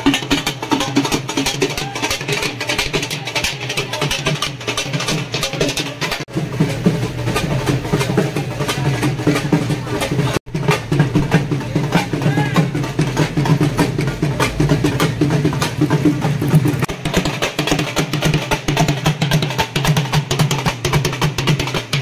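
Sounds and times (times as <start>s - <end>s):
drum and percussion music: 0.0s - 22.0s.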